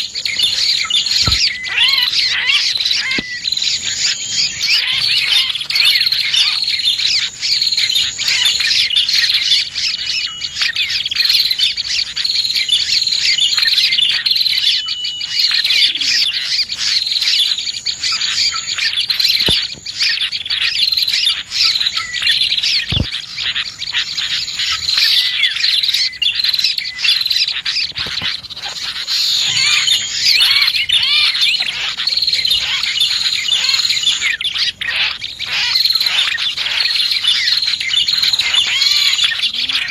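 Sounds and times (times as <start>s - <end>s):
small birds chirping: 0.0s - 39.9s
thin held bird whistles: 0.0s - 39.9s.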